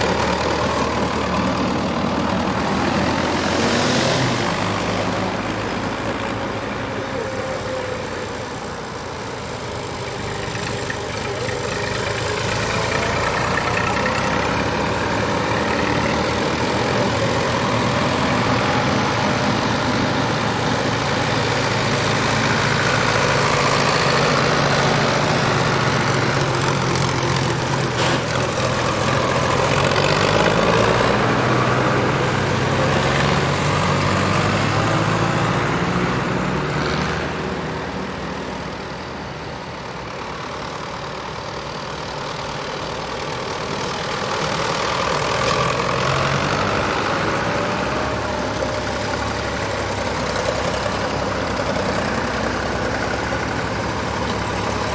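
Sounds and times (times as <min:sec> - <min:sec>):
tractor engines driving past: 0:00.0 - 0:54.9.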